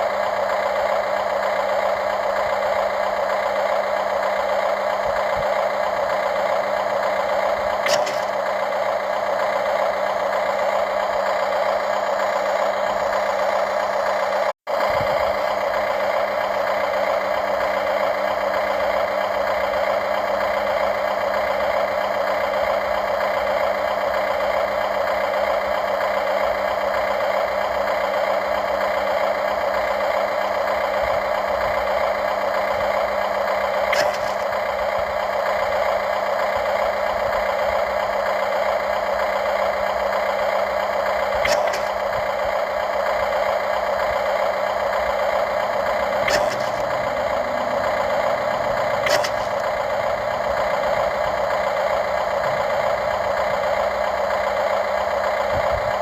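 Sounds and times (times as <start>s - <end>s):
toy excavator mechanical drone: 0.0s - 56.0s.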